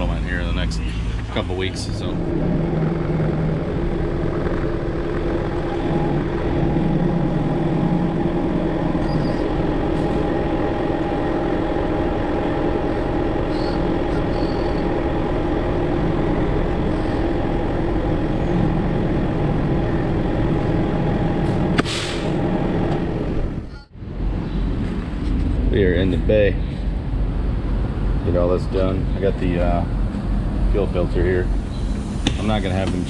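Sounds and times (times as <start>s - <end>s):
diesel engine running at low revs: 0.0s - 33.0s.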